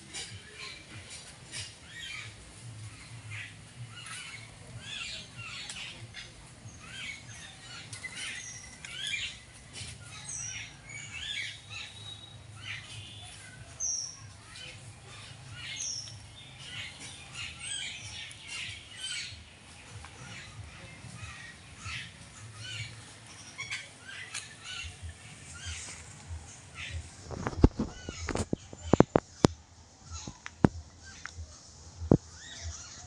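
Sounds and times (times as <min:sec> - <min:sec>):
birds chirping and squawking: 0:00.0 - 0:33.0.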